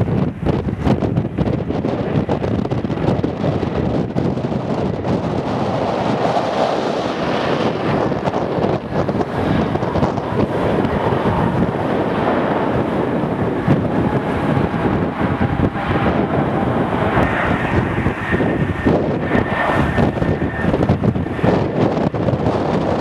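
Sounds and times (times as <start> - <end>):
faint jet engine whine: 0.0 - 23.0
wind buffeting microphone: 0.0 - 23.0.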